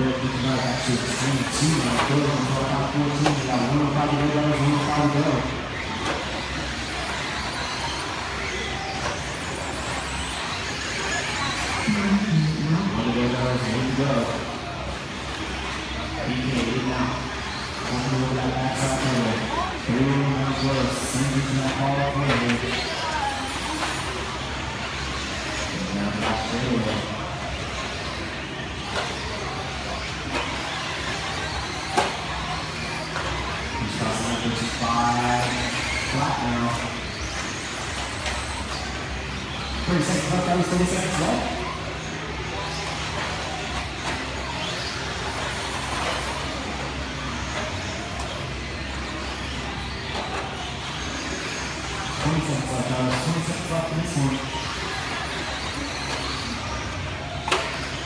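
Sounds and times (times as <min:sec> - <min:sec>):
faint chatter: 0:00.0 - 0:58.0
rc truck motor whine: 0:00.0 - 0:58.0.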